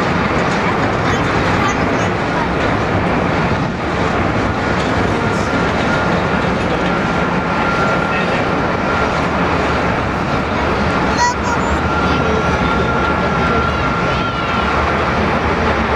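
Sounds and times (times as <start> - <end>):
jet engines whining: 0.0 - 15.9.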